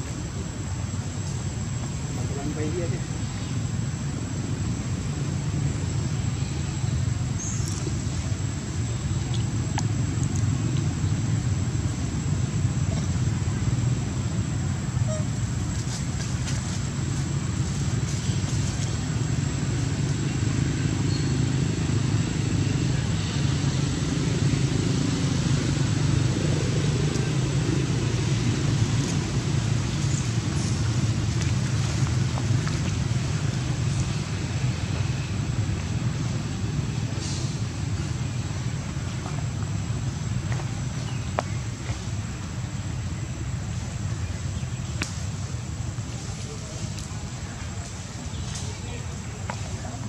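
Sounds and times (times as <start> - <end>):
low outdoor rumble: 0.0 - 50.0.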